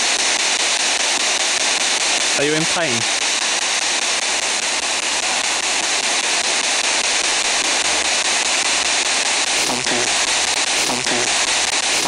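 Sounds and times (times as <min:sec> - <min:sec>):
radio static hissing: 0:02.0 - 0:12.0.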